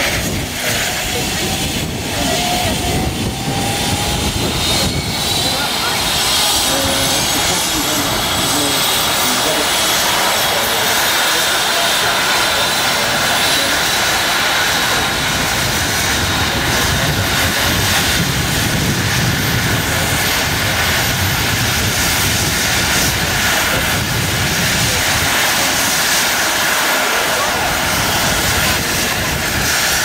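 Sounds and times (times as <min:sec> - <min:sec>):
helicopter rotor throb: 0:00.0 - 0:30.0
helicopter turbine whine: 0:00.0 - 0:30.0.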